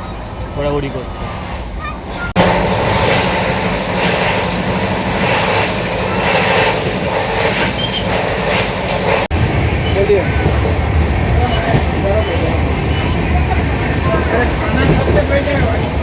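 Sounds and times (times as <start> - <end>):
train carriage rumbling on track: 0.0 - 16.0.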